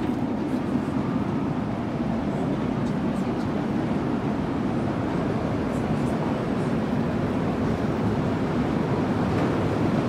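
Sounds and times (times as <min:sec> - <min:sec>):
airport terminal background rumble: 0:00.0 - 0:10.0.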